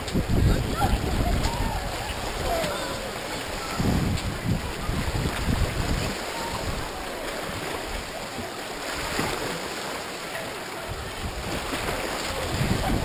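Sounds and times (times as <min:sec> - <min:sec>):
shallow water lapping and splashing: 0:00.0 - 0:13.0.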